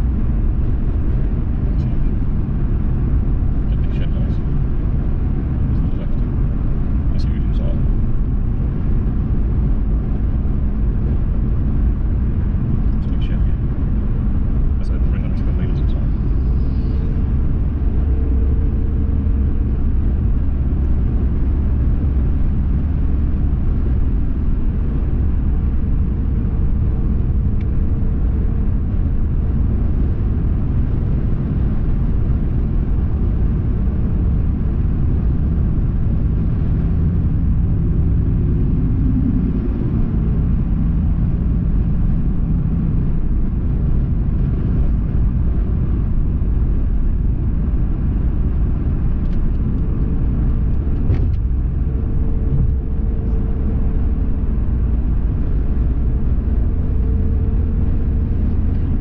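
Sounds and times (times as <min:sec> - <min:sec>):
car road and engine rumble: 0:00.0 - 0:59.0
faint steady hum: 0:00.0 - 0:59.0.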